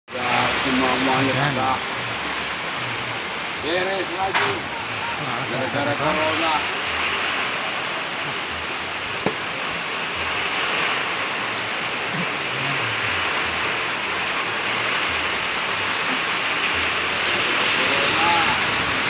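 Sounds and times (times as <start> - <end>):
heavy rain: 0.1 - 19.0.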